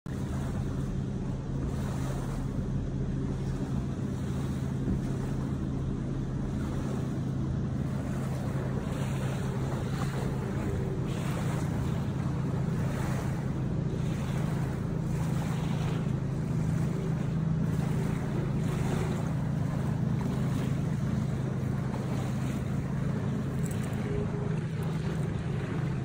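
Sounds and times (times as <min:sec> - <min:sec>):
low rumble: 0:00.1 - 0:26.0.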